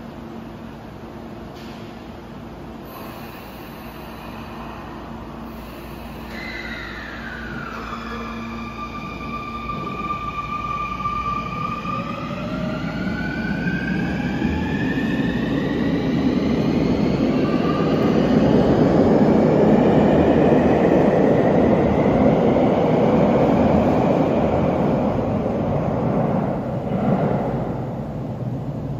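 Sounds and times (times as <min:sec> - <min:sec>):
train wheel and running noise: 0:00.0 - 0:28.9.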